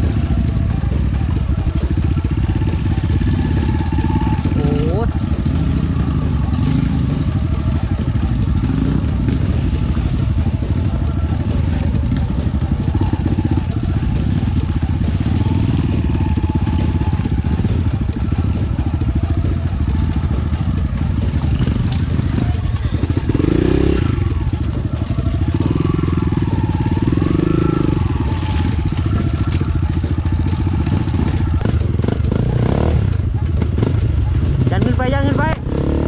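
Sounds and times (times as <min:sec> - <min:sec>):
dirt bike engine: 0:00.0 - 0:36.0.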